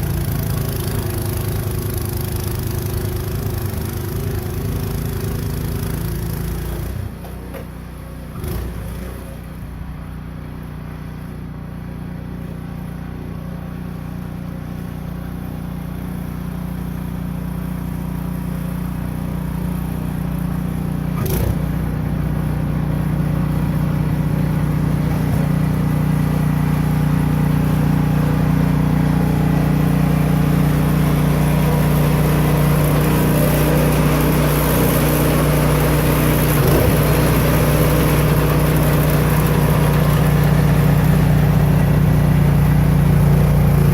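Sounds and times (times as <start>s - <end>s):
snow blower engine running: 0.0s - 43.9s.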